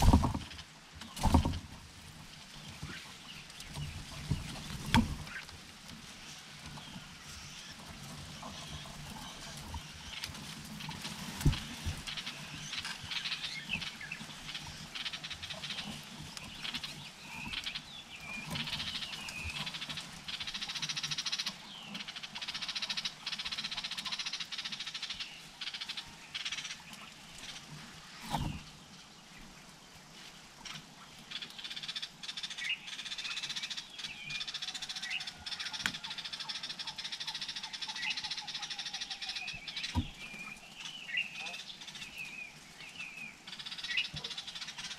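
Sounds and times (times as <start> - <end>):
leaves rustling: 0.0 - 44.9.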